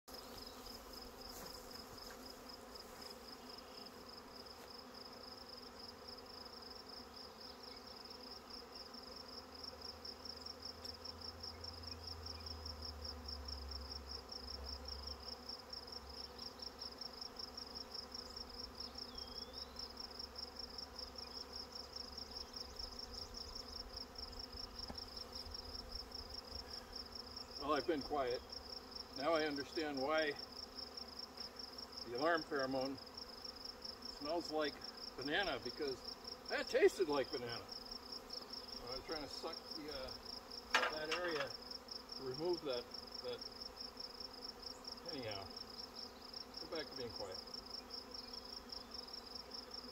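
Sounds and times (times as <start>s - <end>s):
bees buzzing: 0.1s - 49.9s.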